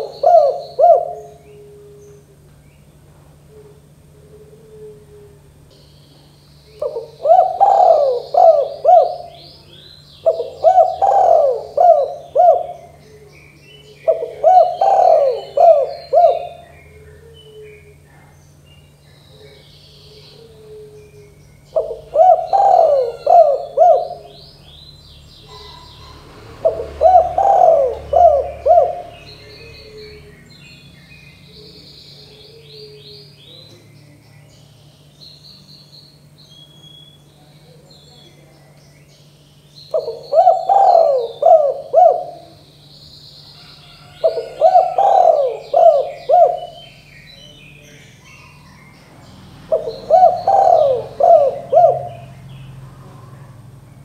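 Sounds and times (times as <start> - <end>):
dove cooing: 0.0 - 18.3, 18.9 - 30.5, 31.4 - 34.2, 39.9 - 42.9, 43.5 - 48.9, 49.6 - 53.9.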